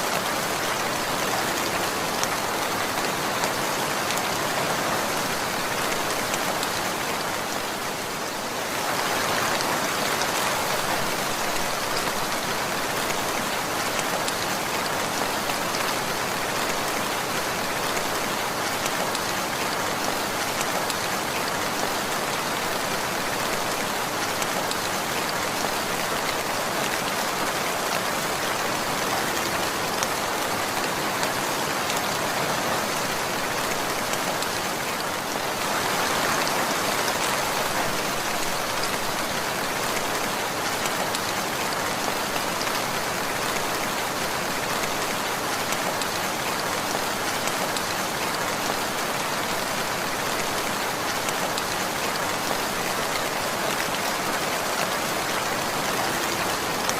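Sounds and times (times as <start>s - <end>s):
steady rain pattering: 0.0s - 56.9s.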